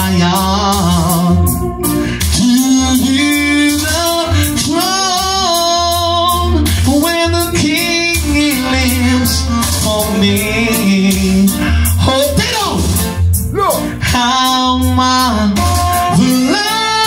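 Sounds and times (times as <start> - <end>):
man singing into microphone: 0.0 - 13.0, 13.6 - 17.0
backing track with pulsing bass: 0.0 - 17.0.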